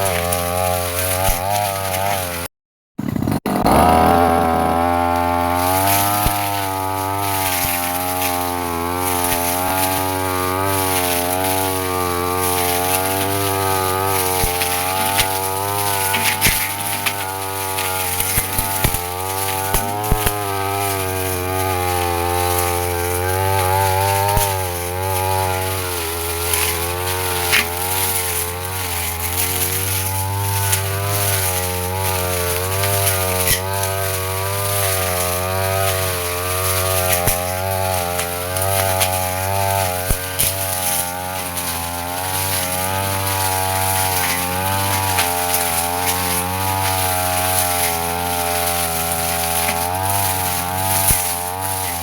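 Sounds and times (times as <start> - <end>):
brush cutter engine running: 0.0 - 52.0.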